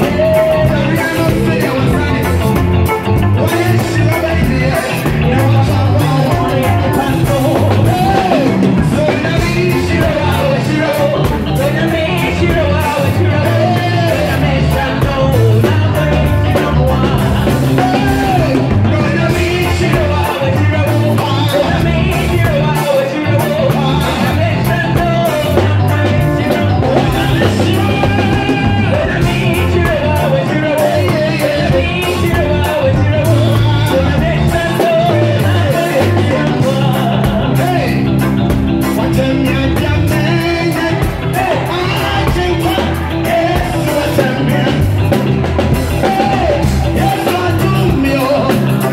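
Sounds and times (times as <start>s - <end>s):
live band music: 0.0s - 48.9s
man singing into microphone: 0.0s - 48.9s.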